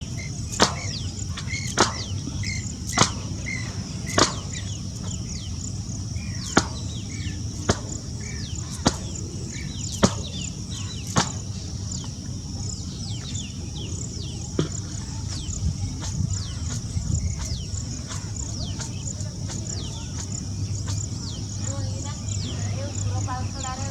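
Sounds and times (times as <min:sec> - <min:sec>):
bird chirps: 0:00.0 - 0:23.9
insects chirring: 0:00.0 - 0:23.9.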